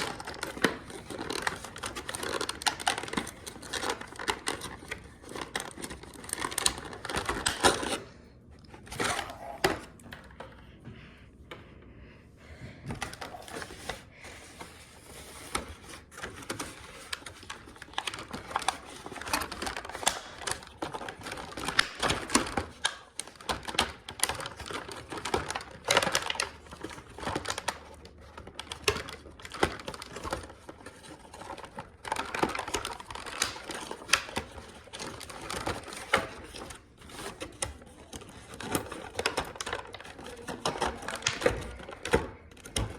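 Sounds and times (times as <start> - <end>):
plastic packaging crinkling and clicking: 0.0 - 10.6, 12.9 - 42.9.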